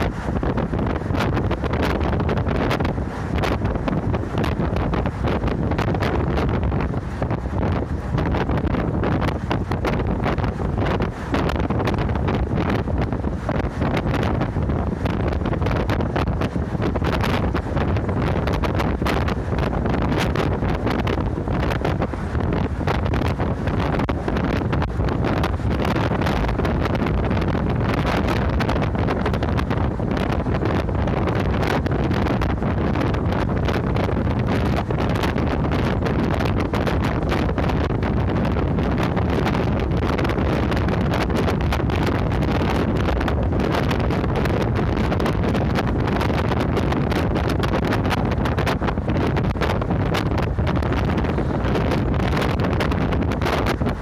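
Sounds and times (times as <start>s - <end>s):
bus engine and road rumble: 0.0s - 54.0s
wind buffeting microphone: 0.0s - 54.0s.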